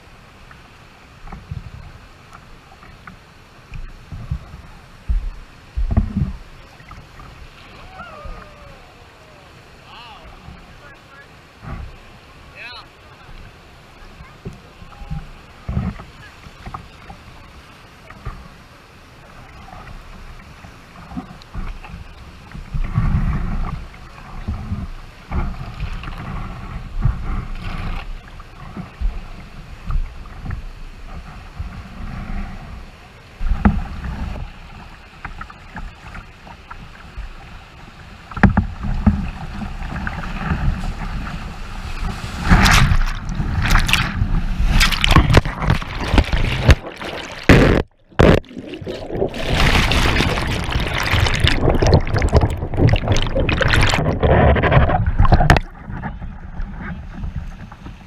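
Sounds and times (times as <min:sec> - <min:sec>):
whitewater rapids splashing: 0:03.2 - 0:56.0.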